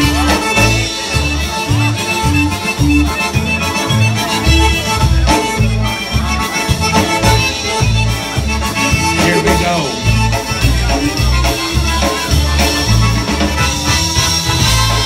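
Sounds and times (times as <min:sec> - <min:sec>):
accordion: 0:00.0 - 0:15.0
polka band playing: 0:00.0 - 0:15.0.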